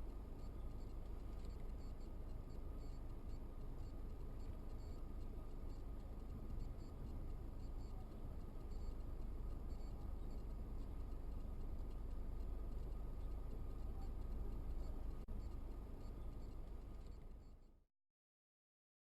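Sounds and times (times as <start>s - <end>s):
faint light ticking: 0.0s - 17.7s
car engine and road noise: 0.0s - 17.8s.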